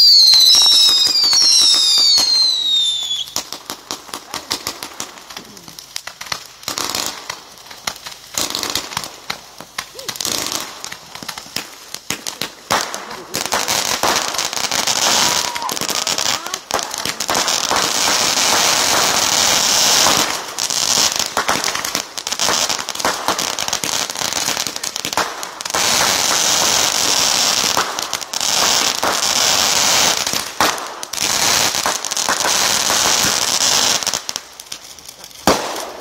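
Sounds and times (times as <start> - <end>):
fireworks crackling and banging: 0.0 - 36.0
fireworks hissing: 0.0 - 36.0.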